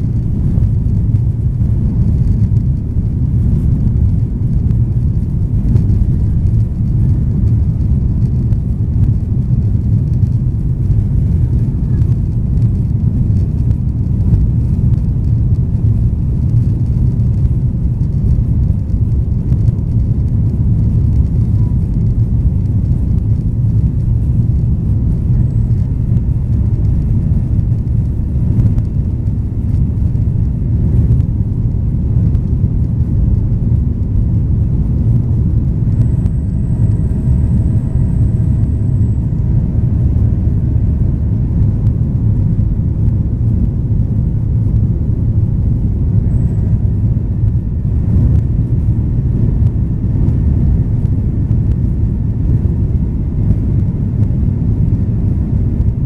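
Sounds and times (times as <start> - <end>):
airflow noise over fuselage: 0.0 - 56.0
jet engines rumbling in cabin: 0.0 - 56.0.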